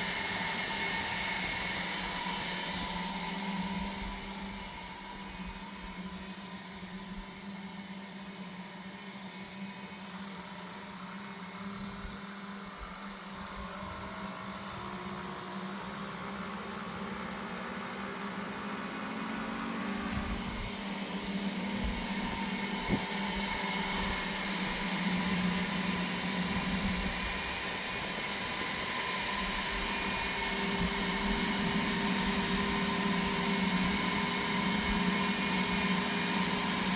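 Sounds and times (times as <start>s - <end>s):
cooling fan whirring: 0.0s - 36.9s.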